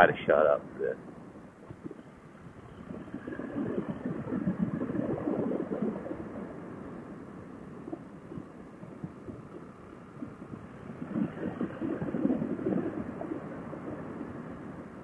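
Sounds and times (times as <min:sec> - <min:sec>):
wind buffeting: 0:00.0 - 0:15.0.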